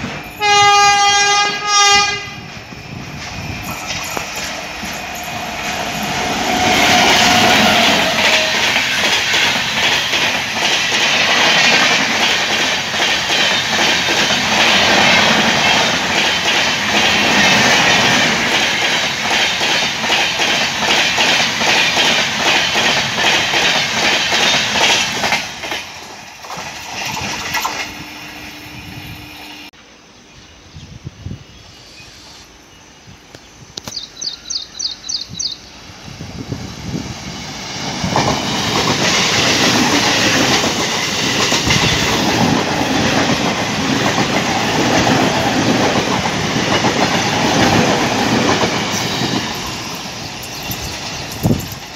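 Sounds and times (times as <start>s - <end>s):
train wheels clickety-clack: 0.0s - 28.0s, 36.4s - 51.9s
quieter approaching train: 0.0s - 51.9s.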